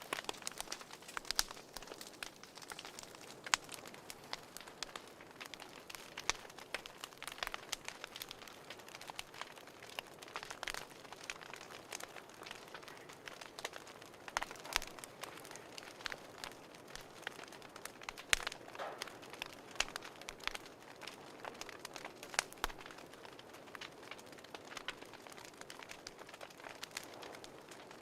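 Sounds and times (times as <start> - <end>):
fireplace crackling: 0.0 - 28.0.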